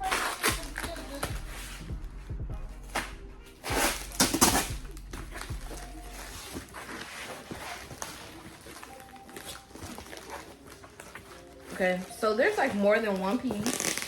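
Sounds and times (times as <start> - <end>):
styrofoam rustling and scraping: 0.0 - 1.8, 2.8 - 14.0.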